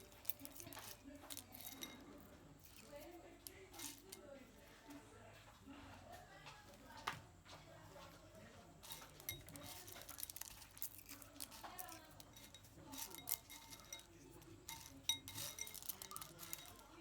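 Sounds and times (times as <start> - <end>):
peanuts and utensils clinking: 0.0 - 5.2, 8.0 - 17.0.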